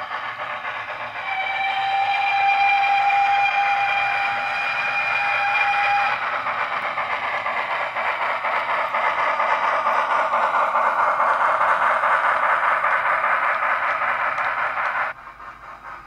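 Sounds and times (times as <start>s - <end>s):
model steam locomotive chuffs: 0.0s - 16.0s.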